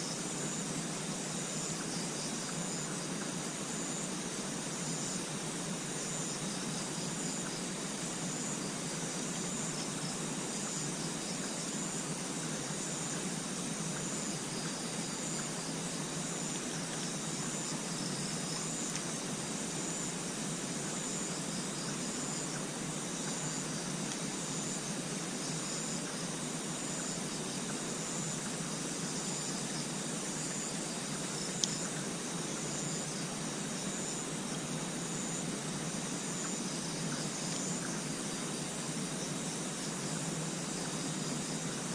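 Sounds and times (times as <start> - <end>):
high insect chirp: 0.0 - 41.9
night ambience hiss: 0.0 - 41.9.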